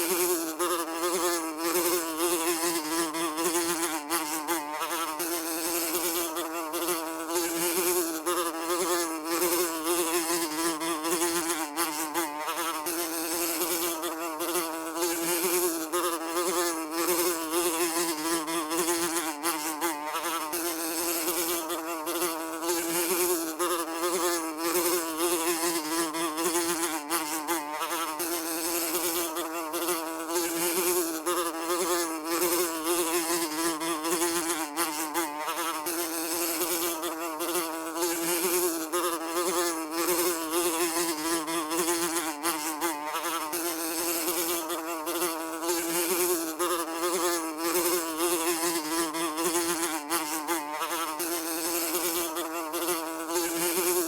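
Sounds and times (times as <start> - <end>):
fly buzzing: 0.0 - 54.0.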